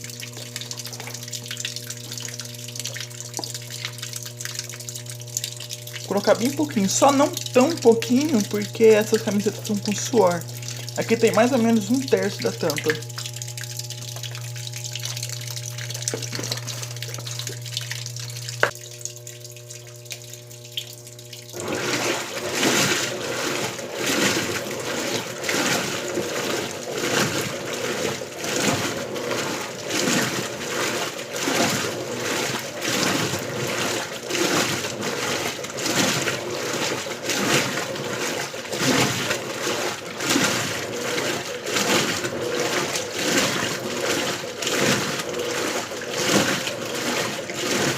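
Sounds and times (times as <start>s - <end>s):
washing machine agitator sloshing: 0.0s - 47.9s
water filling washing machine: 0.0s - 47.9s.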